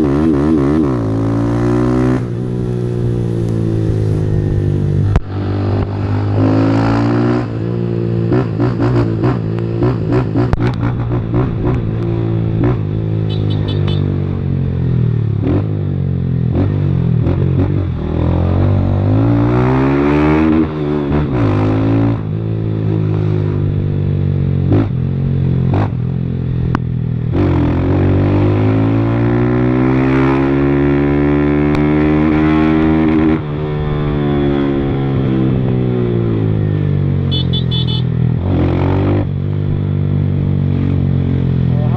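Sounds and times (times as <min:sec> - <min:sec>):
motorcycle accelerating hard: 0:00.0 - 0:41.9.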